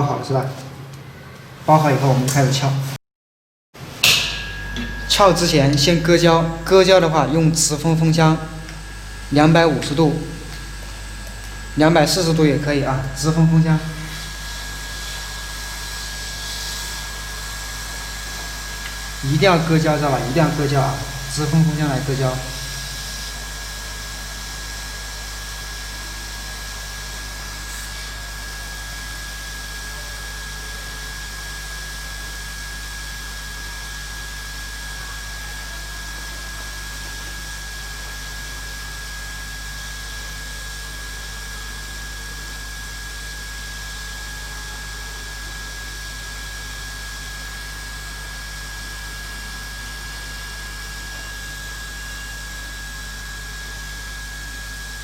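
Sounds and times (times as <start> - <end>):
hot air blower hissing: 3.8 - 55.0.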